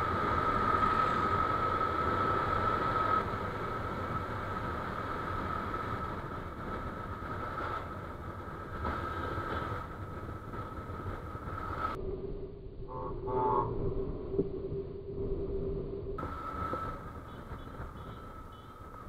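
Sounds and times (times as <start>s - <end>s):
wind rush: 0.0s - 19.0s.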